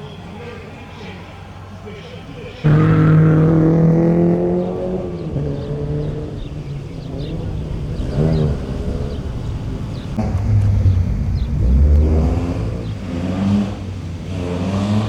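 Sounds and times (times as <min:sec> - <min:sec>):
rally car engine at high revs: 0:02.6 - 0:15.0.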